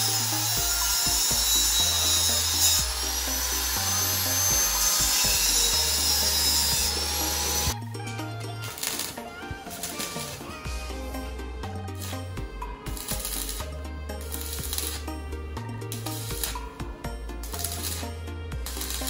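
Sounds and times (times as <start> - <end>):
angle grinder on metal: 0.0 - 19.0
background music with bass line: 0.0 - 19.0.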